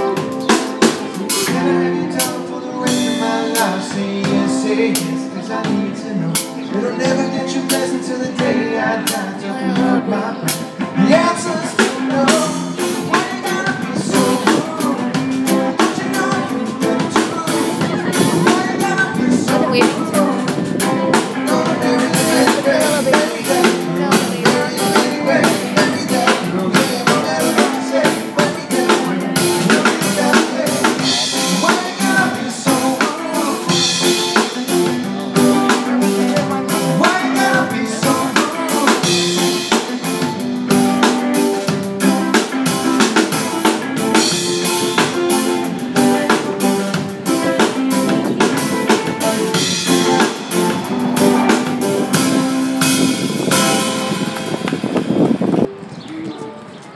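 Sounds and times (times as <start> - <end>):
drum kit beat: 0.0 - 55.7
electric guitars: 0.0 - 56.4.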